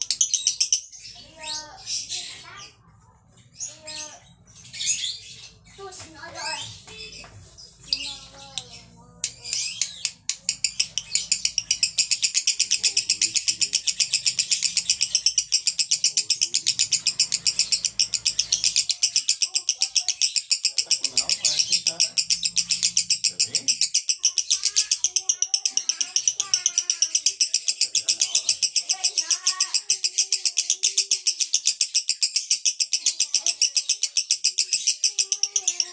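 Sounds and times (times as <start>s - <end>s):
lovebird chattering song: 0.0s - 2.8s, 3.5s - 35.9s.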